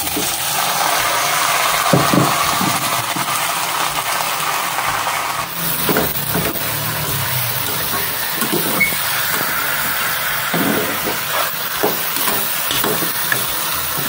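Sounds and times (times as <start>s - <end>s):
chicken sizzling in a pot: 0.0s - 14.0s.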